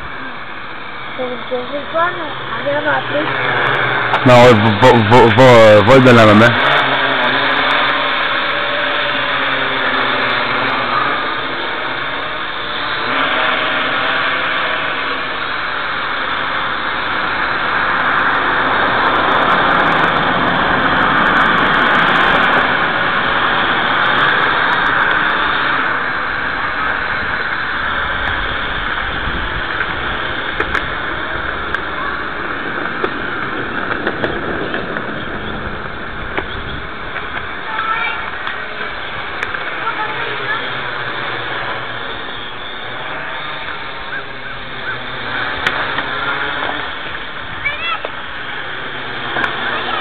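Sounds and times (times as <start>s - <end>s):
drone rotors buzzing: 0.0s - 50.0s.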